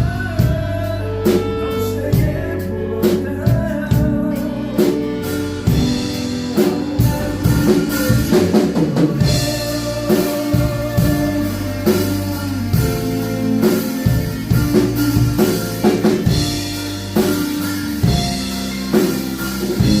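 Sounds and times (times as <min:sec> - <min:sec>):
band playing instrumental: 0:00.0 - 0:20.0
drum kit beat: 0:00.0 - 0:20.0.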